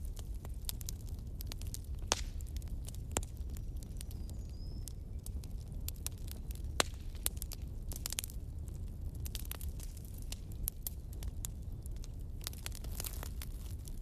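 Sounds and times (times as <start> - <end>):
bonfire crackling and popping: 0.0 - 14.0
low fire rumble: 0.0 - 14.0.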